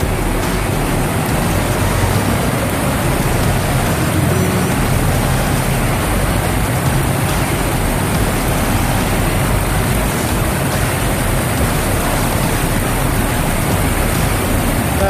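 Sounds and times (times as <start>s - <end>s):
water rushing through tunnel: 0.0s - 15.0s.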